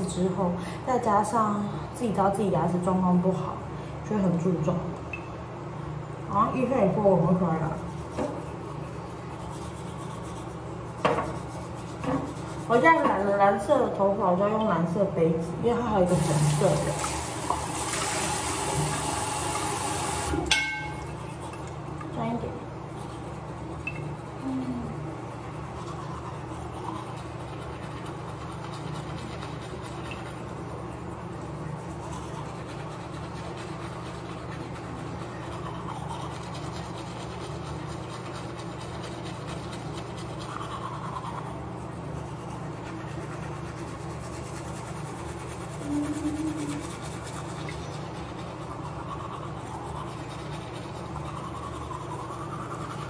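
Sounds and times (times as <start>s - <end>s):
low background hum: 0.0s - 53.0s
toothbrush scrubbing teeth: 6.5s - 15.0s, 15.6s - 53.0s.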